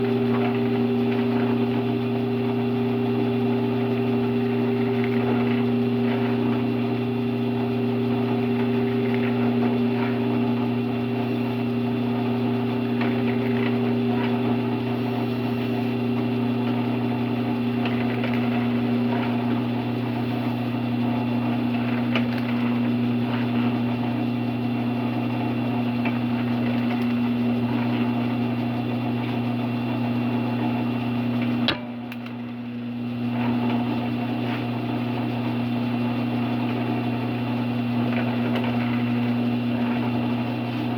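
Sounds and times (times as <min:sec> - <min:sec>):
drill press motor humming: 0:00.0 - 0:40.9.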